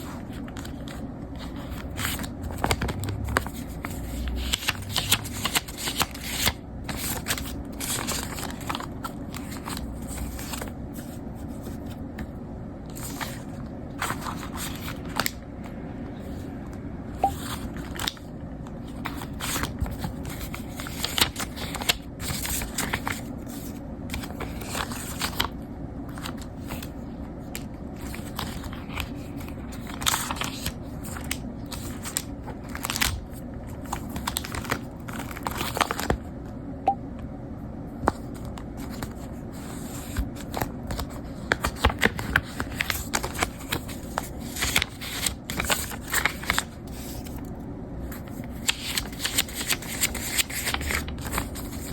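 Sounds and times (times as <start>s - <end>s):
paper rustling: 0.0s - 15.4s, 17.2s - 36.3s, 38.0s - 47.5s, 48.1s - 51.9s
steady low hum: 0.0s - 51.9s.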